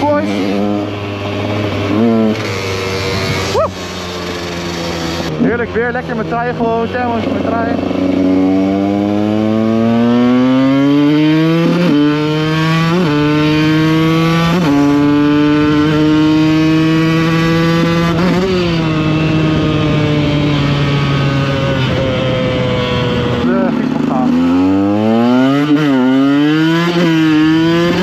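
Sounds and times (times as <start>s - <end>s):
two-stroke motorcycle accelerating: 0.0s - 28.0s.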